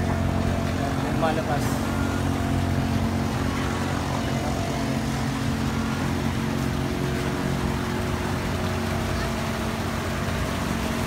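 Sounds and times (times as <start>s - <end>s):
engine droning hum: 0.0s - 11.0s.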